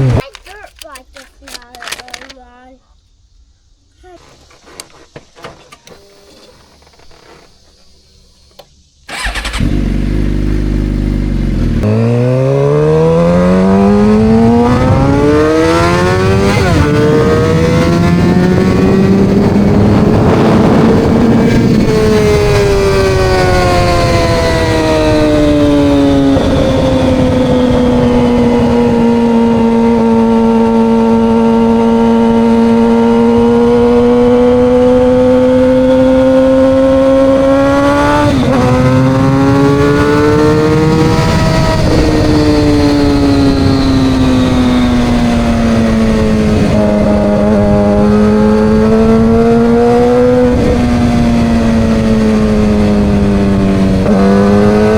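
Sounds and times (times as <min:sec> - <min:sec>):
motorcycle engine accelerating: 0:00.0 - 0:00.2, 0:09.1 - 0:54.9.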